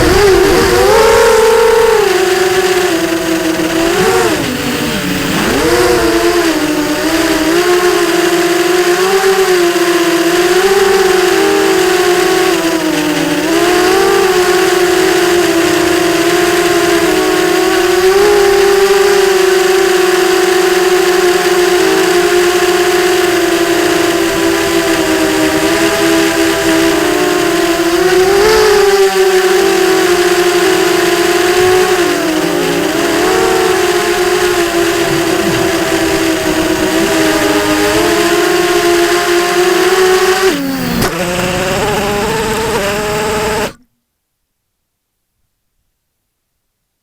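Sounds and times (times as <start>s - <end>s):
quadcopter motors whining: 0.0s - 43.8s.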